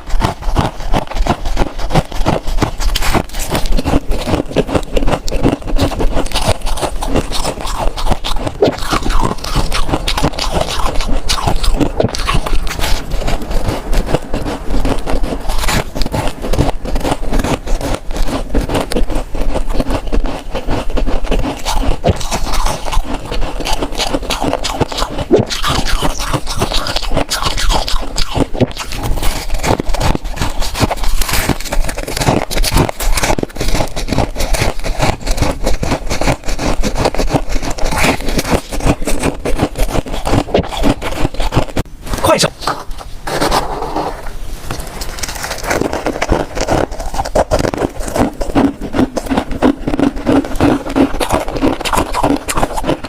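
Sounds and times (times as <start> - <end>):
frost being scraped and crunched: 0.0 - 53.0.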